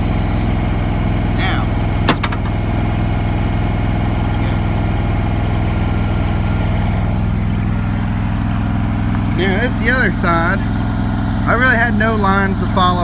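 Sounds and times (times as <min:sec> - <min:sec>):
welder engine running: 0:00.0 - 0:13.0.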